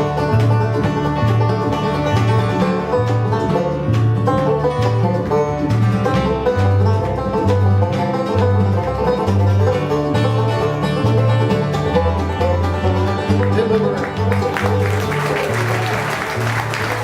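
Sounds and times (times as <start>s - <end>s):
banjo picking: 0.0s - 17.0s
guitar: 0.0s - 17.0s
mandolin: 0.0s - 17.0s
walking bass line: 0.0s - 17.0s.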